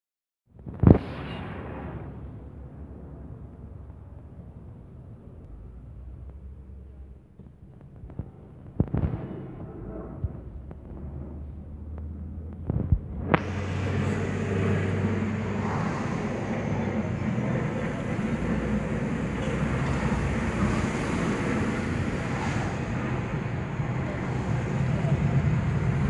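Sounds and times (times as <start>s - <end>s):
road and wind noise: 0.5s - 26.0s.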